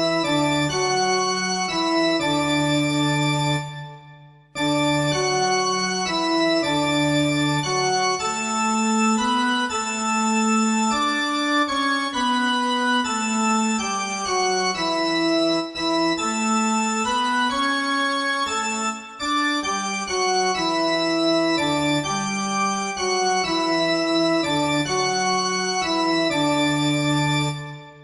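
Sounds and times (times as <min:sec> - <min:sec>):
organ playing chords: 0:00.1 - 0:03.9, 0:04.6 - 0:28.0.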